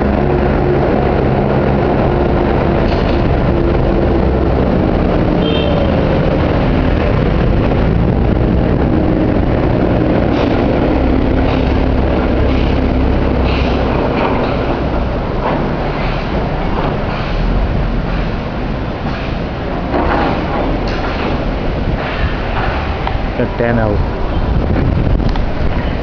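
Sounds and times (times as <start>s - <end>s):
diesel machinery engine drone: 0.0s - 26.0s
rushing noise: 0.0s - 26.0s.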